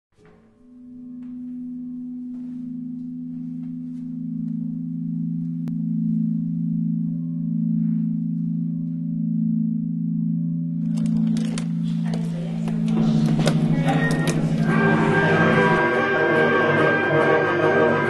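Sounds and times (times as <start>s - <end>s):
low two-tone musical drone: 0.2s - 18.0s.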